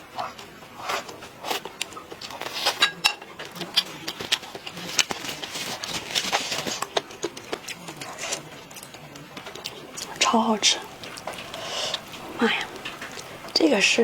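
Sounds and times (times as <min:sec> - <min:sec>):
chewing and lip smacking: 0:00.2 - 0:14.0.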